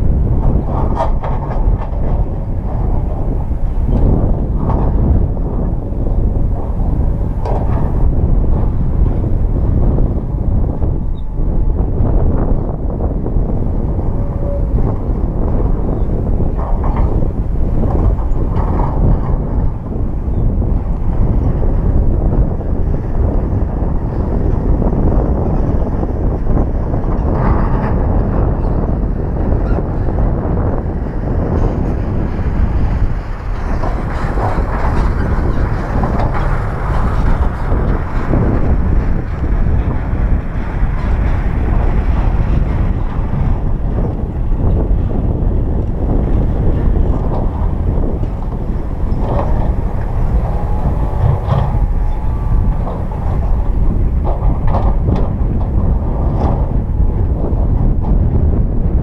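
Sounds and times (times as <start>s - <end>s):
diesel engine rumbling under load: 0.0s - 59.0s.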